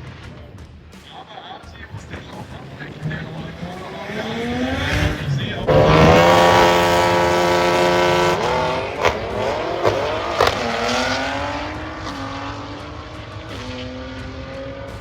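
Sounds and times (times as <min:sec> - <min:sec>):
race car accelerating: 0:01.7 - 0:15.0
sharp crack at gear shifts: 0:02.1 - 0:15.0.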